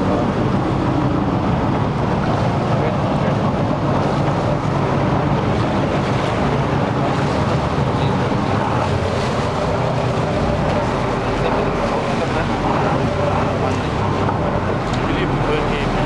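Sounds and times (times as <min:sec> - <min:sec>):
motorboat engine rumble: 0:00.0 - 0:16.0.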